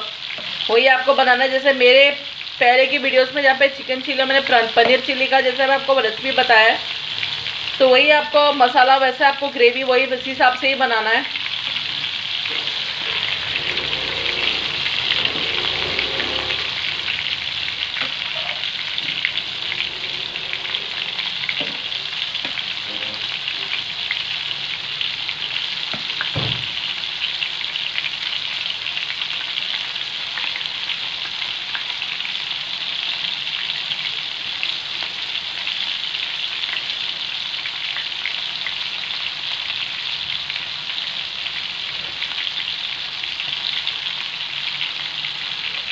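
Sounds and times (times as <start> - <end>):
deep-frying sizzle: 0.0 - 45.9.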